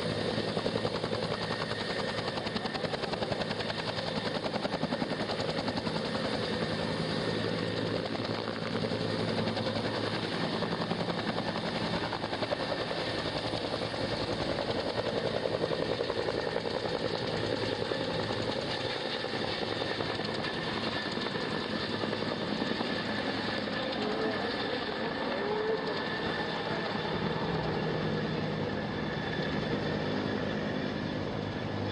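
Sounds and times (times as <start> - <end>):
helicopter rotor chopping: 0.0 - 31.9.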